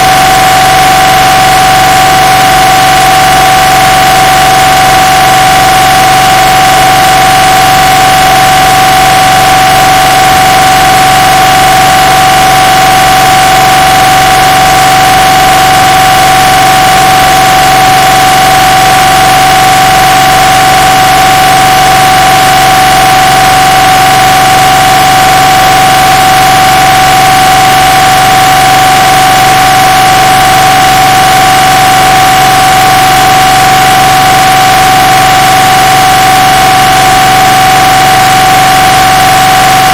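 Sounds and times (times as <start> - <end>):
mri scanner drone: 0.0 - 39.9.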